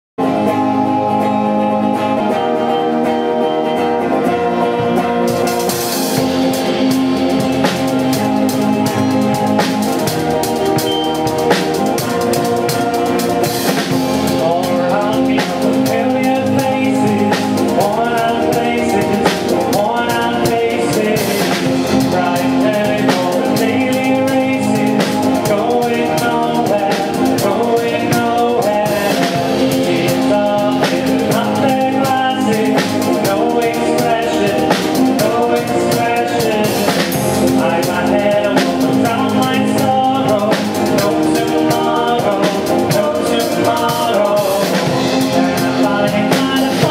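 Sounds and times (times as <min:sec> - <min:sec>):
percussion beat: 0:04.8 - 0:46.9
man singing: 0:05.8 - 0:46.9.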